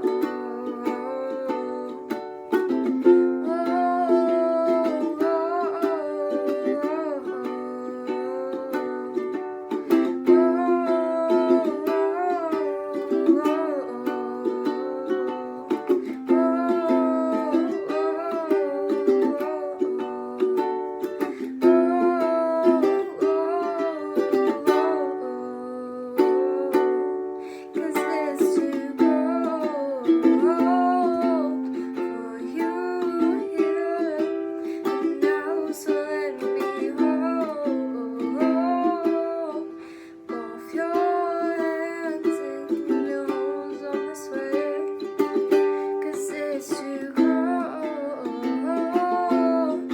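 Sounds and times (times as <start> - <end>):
ukulele strumming: 0.0 - 49.9.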